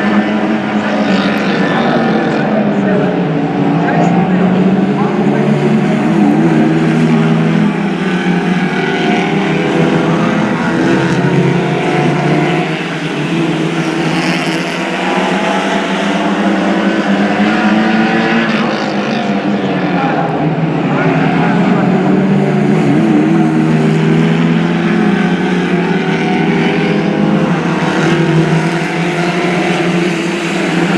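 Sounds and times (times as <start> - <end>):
racing car engines accelerating: 0.0 - 30.9.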